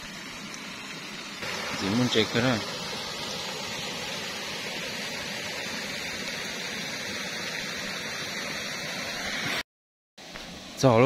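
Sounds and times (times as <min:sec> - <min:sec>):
water rushing over a weir: 0:00.0 - 0:09.6.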